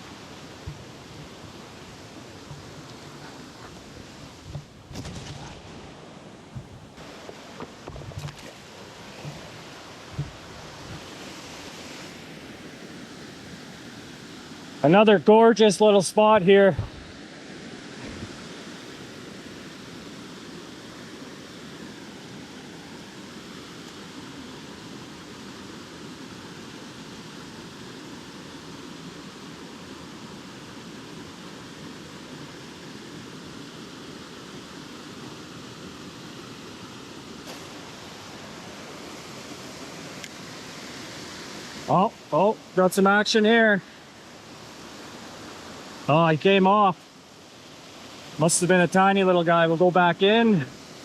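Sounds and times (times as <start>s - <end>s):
river flowing over rocks: 0.0s - 16.0s, 17.0s - 49.6s.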